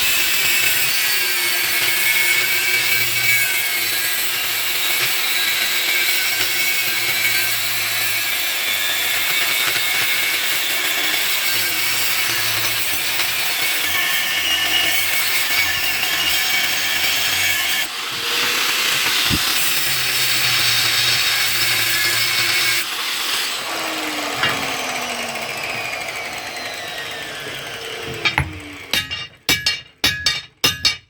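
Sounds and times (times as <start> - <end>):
power tool grinding steel: 0.0 - 31.0.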